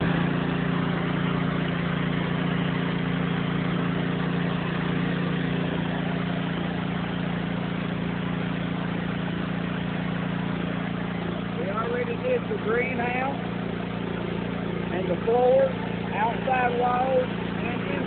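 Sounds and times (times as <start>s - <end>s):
pressure washer engine hum: 0.0s - 18.0s
water jet spraying concrete: 0.0s - 18.0s.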